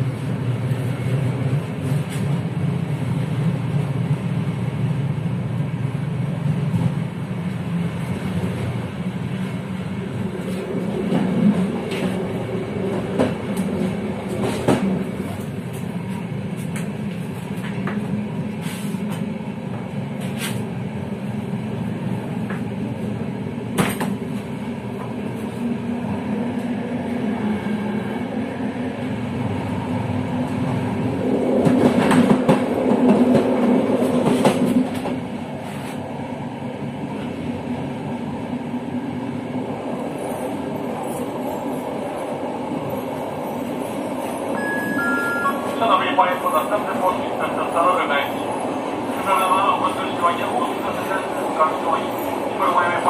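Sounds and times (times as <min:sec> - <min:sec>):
train rolling rumble: 0:00.0 - 0:53.0.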